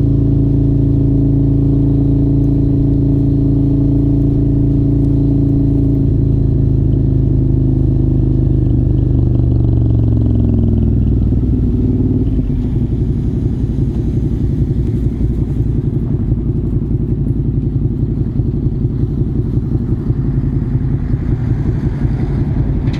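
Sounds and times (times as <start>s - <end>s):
motorcycle engine slowing to idle: 0.0s - 22.9s.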